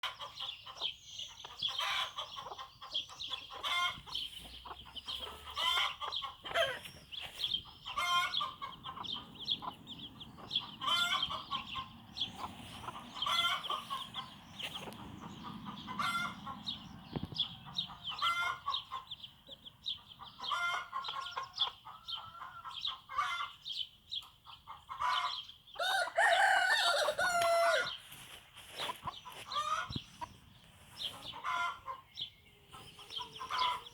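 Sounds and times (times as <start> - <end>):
chicks peeping: 0.0 - 33.9
hen clucking: 0.0 - 33.9.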